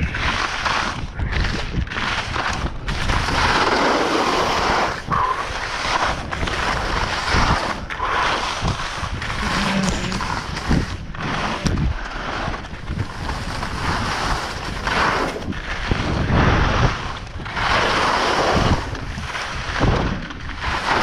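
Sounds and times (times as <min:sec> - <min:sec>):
skis scraping through slushy snow: 0:00.0 - 0:21.0
wind on microphone: 0:00.0 - 0:21.0.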